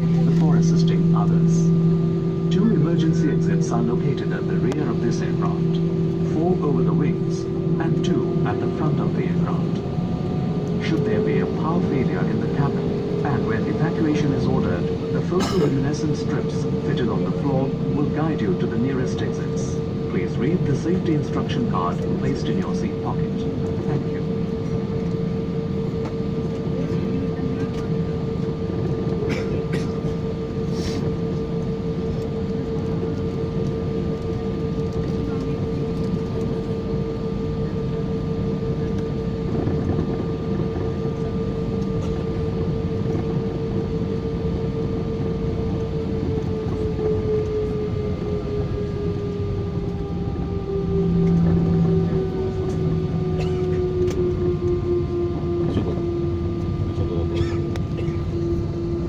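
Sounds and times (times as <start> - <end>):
constant whine: 0.0 - 59.0
jet engines rumbling: 0.0 - 59.0.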